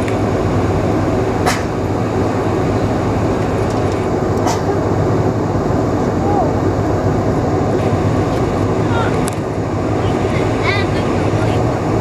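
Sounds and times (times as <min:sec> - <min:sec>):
aircraft cabin rumble: 0:00.0 - 0:12.0
low hum: 0:00.0 - 0:12.0.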